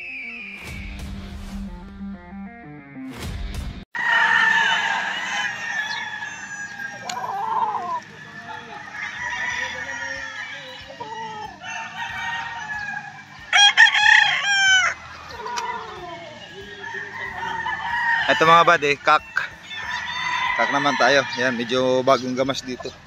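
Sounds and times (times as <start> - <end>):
roosters crowing: 4.0 - 23.0.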